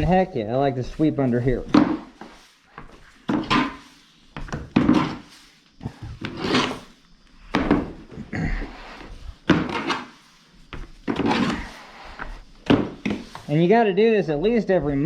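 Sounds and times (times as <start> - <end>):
broom sweeping wooden floor: 0.0 - 13.8.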